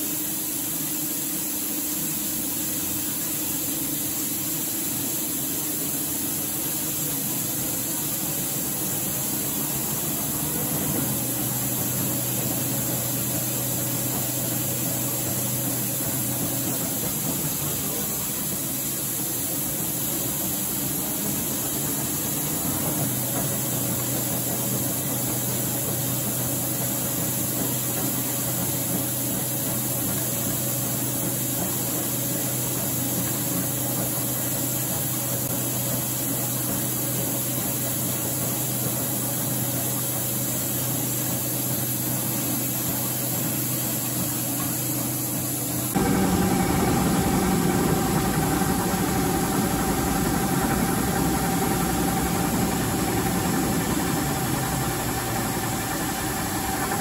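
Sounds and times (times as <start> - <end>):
lathe mechanical hum: 0.0 - 57.0.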